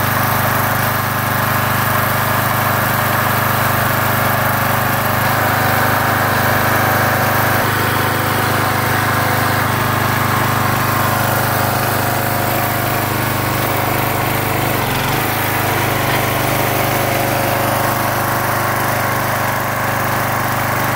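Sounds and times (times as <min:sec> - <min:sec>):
small gasoline engine running: 0:00.0 - 0:20.9.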